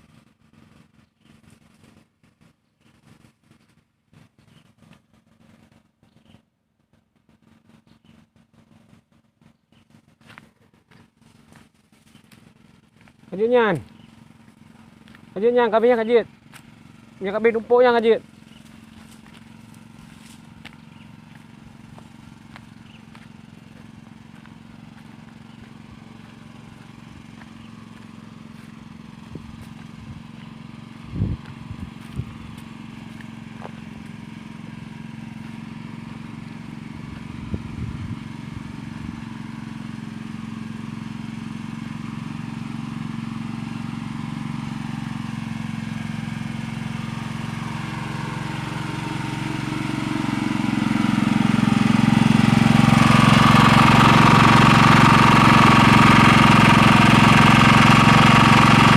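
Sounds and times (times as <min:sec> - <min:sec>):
pressure washer humming: 0:11.3 - 0:58.9.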